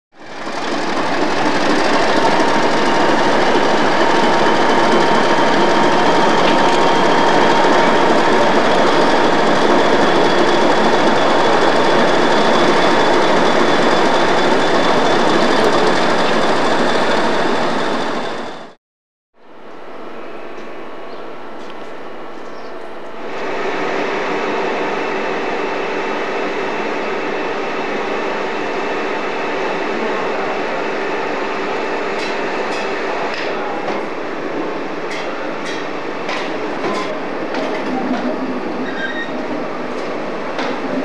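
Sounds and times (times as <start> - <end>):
train rail noise: 0.1 - 18.8, 19.5 - 41.0.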